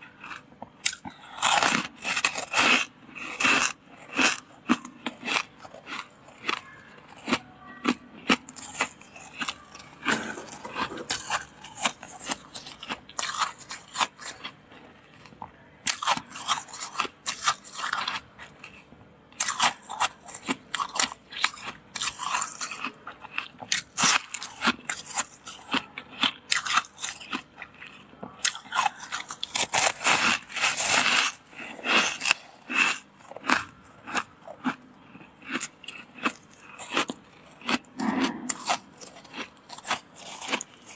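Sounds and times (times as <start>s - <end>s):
frost crunching as chewed: 0.0s - 40.9s.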